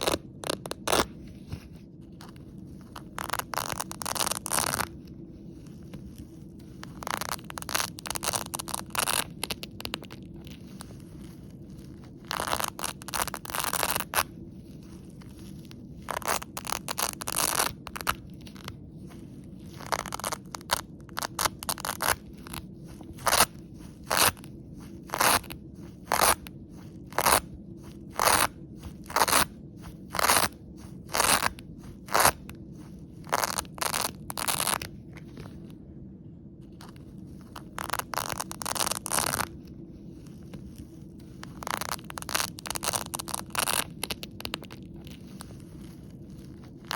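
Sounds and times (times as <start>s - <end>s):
velcro strips ripping: 0.0s - 1.6s, 2.2s - 5.0s, 5.6s - 34.9s, 36.8s - 46.9s.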